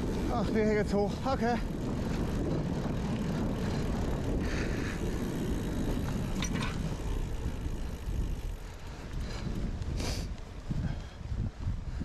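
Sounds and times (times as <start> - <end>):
bike rolling noise: 0.0 - 12.0
wind noise on microphone: 0.0 - 12.0.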